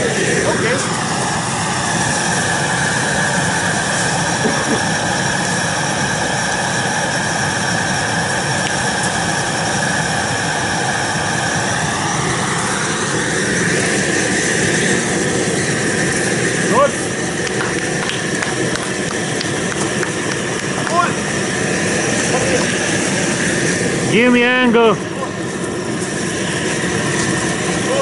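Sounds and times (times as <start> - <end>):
gas torch burner hissing: 0.0 - 28.0.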